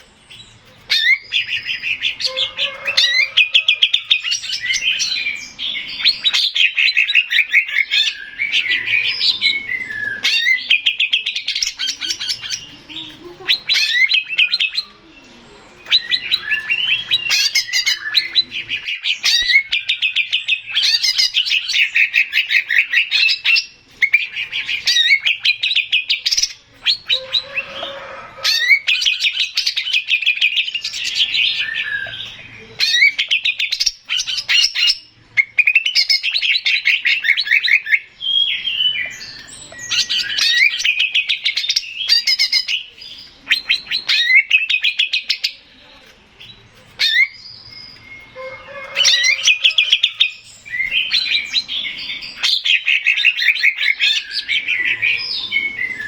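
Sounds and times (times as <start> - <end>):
bird singing fast chattering phrases: 0.0 - 27.9, 28.5 - 56.0.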